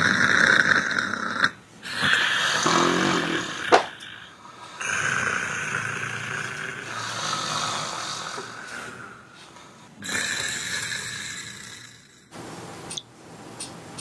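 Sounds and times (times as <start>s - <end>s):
person snoring: 0.0s - 12.3s.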